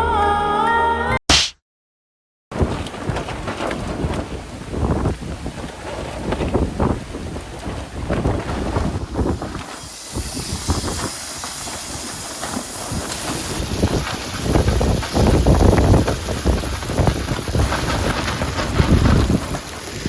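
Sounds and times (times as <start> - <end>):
gusty wind buffeting microphone: 2.5 - 20.0.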